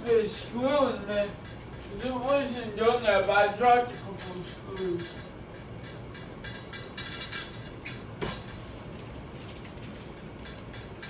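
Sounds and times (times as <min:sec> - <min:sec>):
ceiling fan whirring: 0:00.0 - 0:11.0
light clicks from fan: 0:00.0 - 0:11.0.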